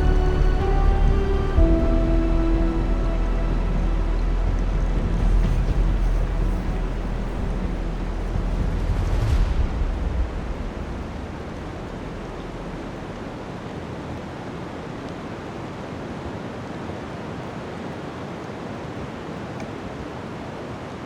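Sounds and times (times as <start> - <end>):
blizzard wind: 0.0 - 21.0.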